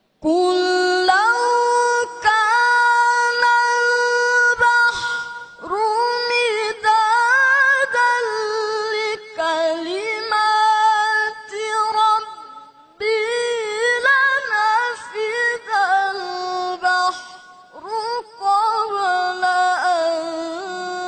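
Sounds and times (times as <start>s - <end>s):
boy reciting melodically: 0.2s - 21.0s.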